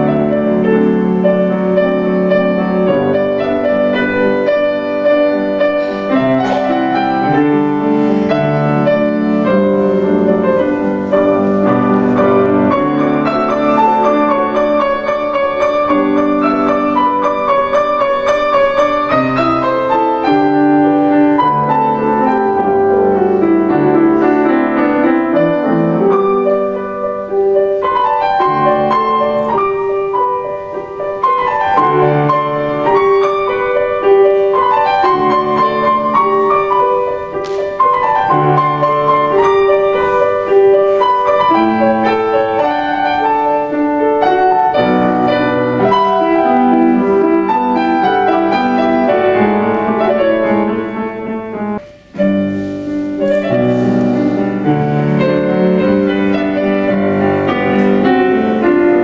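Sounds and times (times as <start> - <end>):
piano duet: 0.0 - 59.0.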